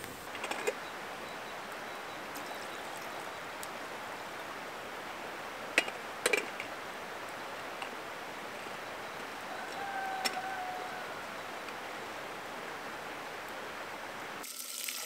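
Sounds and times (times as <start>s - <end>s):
steady hiss: 0.0s - 14.5s.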